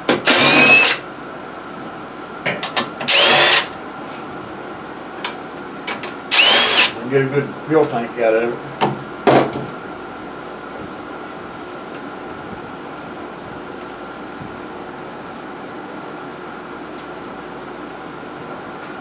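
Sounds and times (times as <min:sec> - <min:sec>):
fan whirring: 0:00.0 - 0:19.0.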